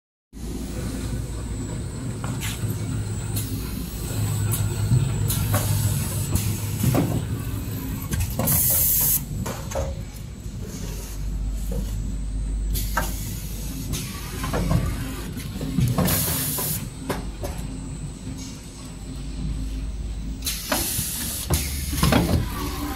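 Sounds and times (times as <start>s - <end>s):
packing machine humming: 0.4s - 22.9s.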